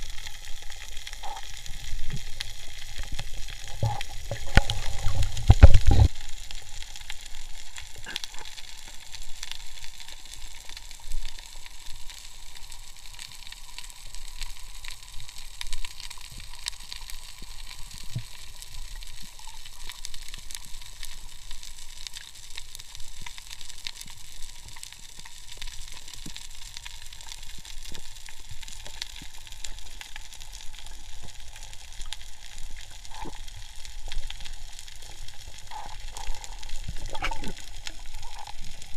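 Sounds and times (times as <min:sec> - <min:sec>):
underwater crackling hiss: 0:00.0 - 0:38.9.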